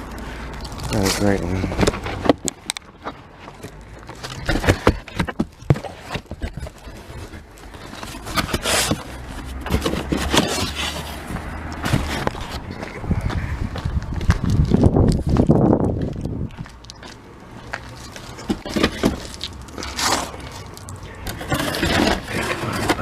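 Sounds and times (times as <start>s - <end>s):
firewood knocking and scraping: 0.6s - 23.0s.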